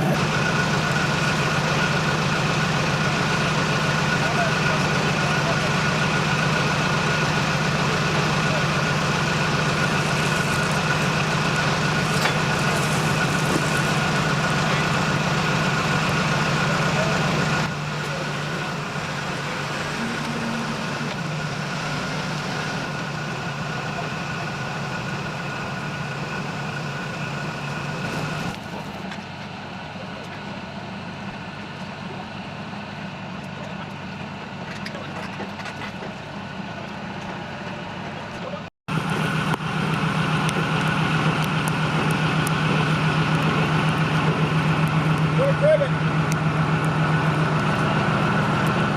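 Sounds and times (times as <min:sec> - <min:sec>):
steady whine: 0:00.0 - 0:34.0, 0:38.5 - 0:48.9
heavy vehicle engine running: 0:00.0 - 0:48.9.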